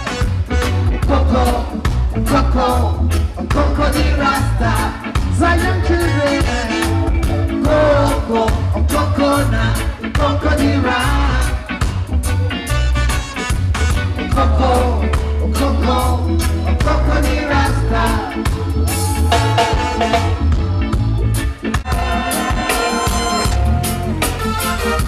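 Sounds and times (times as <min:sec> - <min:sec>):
live band music: 0:00.0 - 0:25.0
lead singer: 0:00.7 - 0:12.3, 0:14.1 - 0:24.4.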